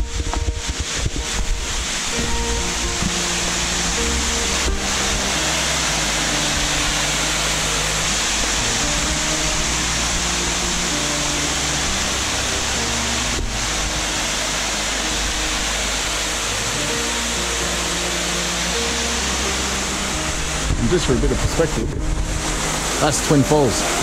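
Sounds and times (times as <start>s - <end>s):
background music with low notes: 0.0s - 24.0s
loud rushing noise: 0.0s - 24.0s.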